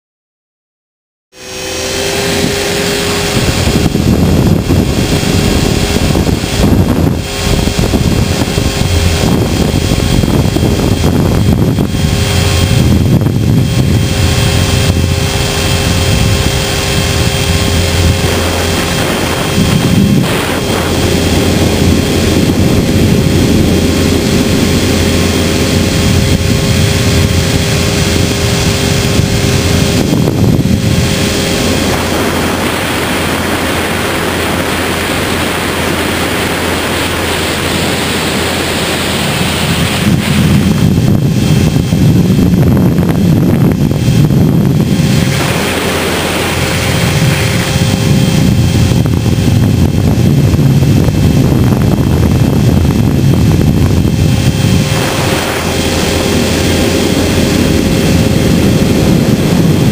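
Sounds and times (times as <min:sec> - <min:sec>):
helicopter motor and rotor whine: 0:01.3 - 0:59.9
rushing air: 0:01.3 - 0:59.9.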